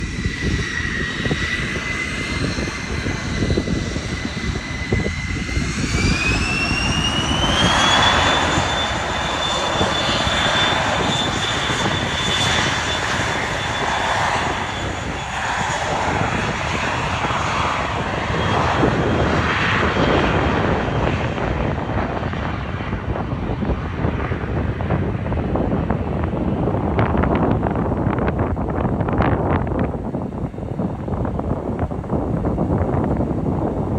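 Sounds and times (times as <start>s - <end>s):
jet engines low roar: 0.0s - 33.9s
jet engines whining: 0.0s - 33.9s.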